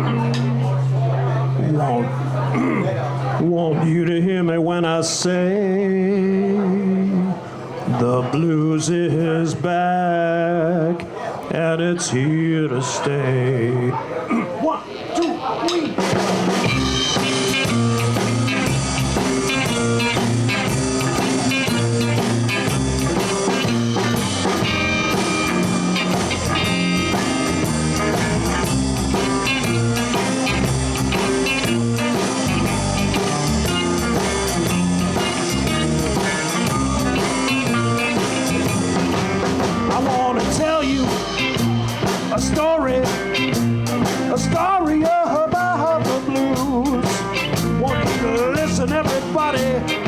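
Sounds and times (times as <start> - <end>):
blues band playing: 0.0 - 50.0.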